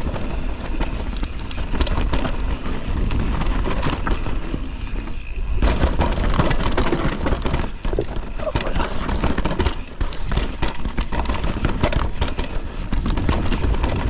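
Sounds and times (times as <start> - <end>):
bike clattering over bumps: 0.0 - 14.0
tyres rolling over dirt and rocks: 0.0 - 14.0
wind rumble on microphone: 0.0 - 14.0.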